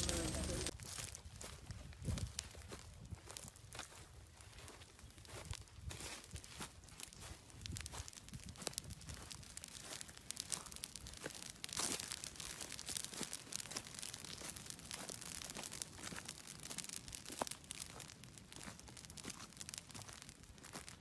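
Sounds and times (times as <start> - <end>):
ground fire crackling: 0.0 - 1.2, 4.9 - 21.0.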